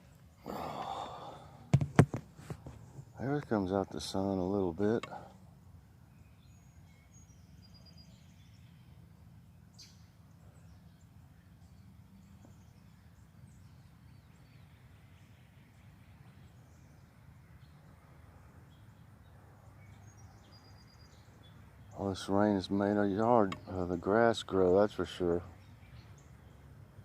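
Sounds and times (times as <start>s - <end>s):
songbirds chirping and singing: 0.0s - 1.7s, 2.5s - 27.0s.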